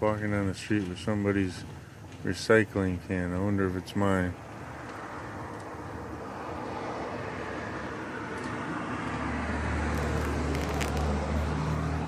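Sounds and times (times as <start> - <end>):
street background noise: 0.0 - 12.0
vehicle engine hum: 0.8 - 12.0.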